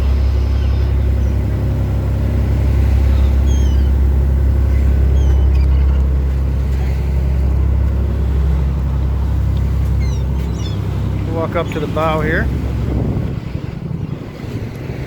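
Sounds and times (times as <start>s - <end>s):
boat engine low drone: 0.0s - 15.0s.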